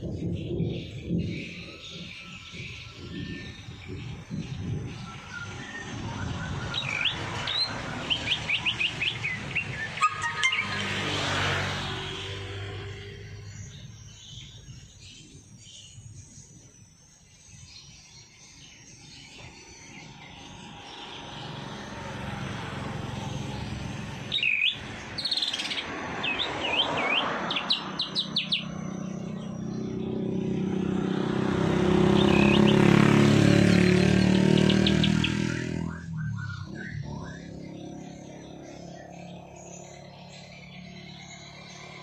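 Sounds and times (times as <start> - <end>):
songbird chirping and trilling: 0.0 - 42.0.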